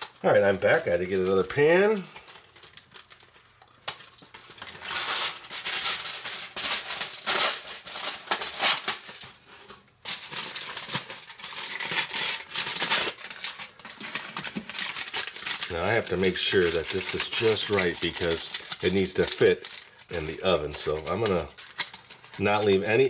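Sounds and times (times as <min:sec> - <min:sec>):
aluminium foil crinkling: 0:00.0 - 0:23.0.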